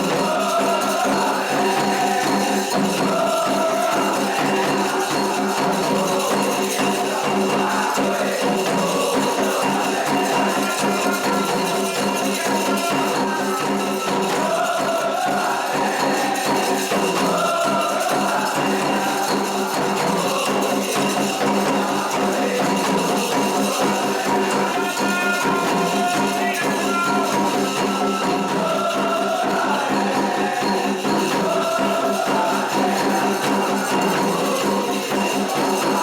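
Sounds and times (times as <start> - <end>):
jingling tambourine percussion: 0.0 - 36.0.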